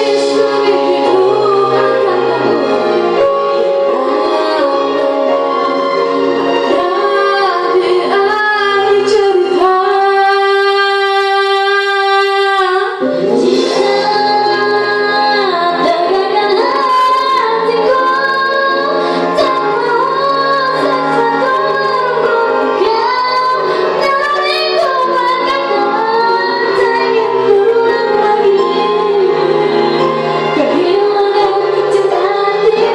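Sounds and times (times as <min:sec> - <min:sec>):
women singing: 0:00.0 - 0:05.8, 0:06.5 - 0:32.9
musical accompaniment: 0:00.0 - 0:32.9.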